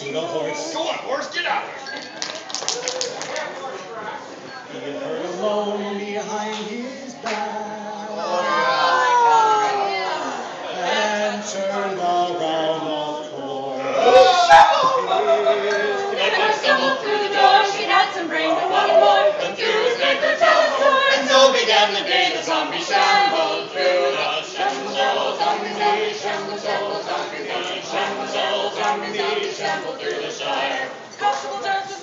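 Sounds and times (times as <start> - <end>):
group singing in harmony: 4.6 - 9.2, 9.9 - 32.0.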